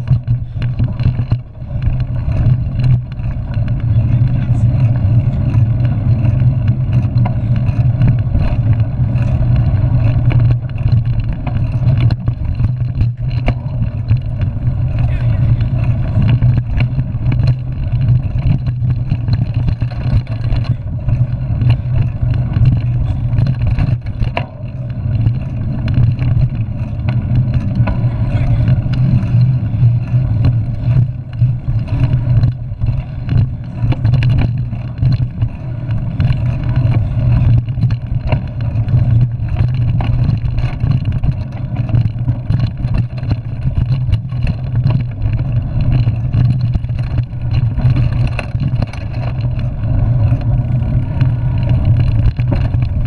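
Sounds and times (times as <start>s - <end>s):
knocks and rattles from bumps: 0.0s - 53.0s
wind and rolling rumble: 0.0s - 53.0s.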